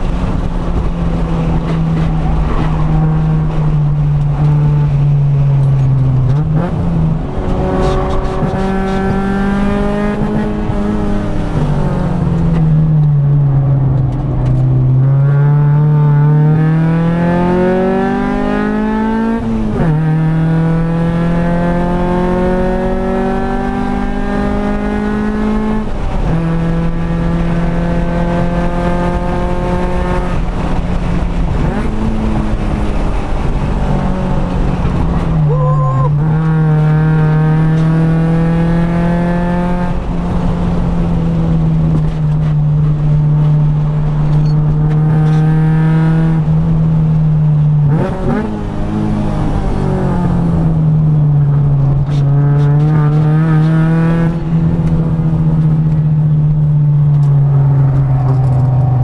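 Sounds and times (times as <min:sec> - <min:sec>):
car engine revving under load: 0:00.0 - 0:59.0.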